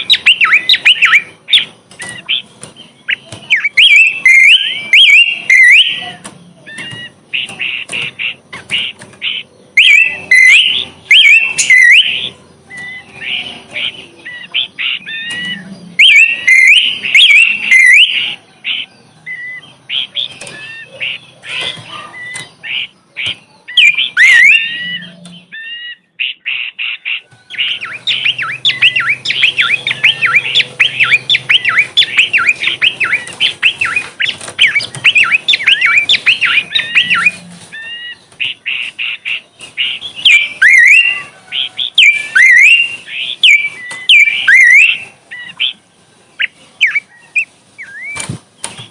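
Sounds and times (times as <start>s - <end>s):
bird singing chattering chirps: 0.0s - 48.9s.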